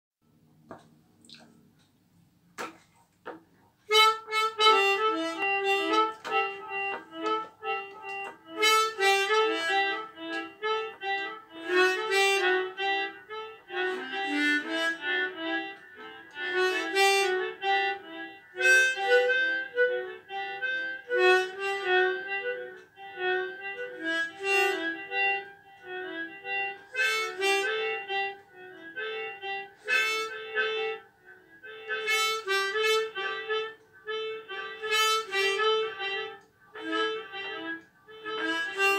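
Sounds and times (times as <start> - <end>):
solo harmonica melody: 3.8 - 38.9.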